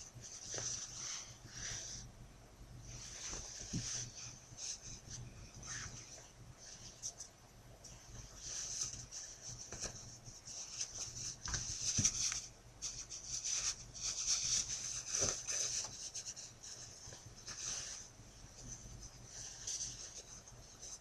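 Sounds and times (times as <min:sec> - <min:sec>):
fabric rustling and rubbing: 0:00.0 - 0:02.1, 0:02.8 - 0:07.3, 0:07.9 - 0:21.0.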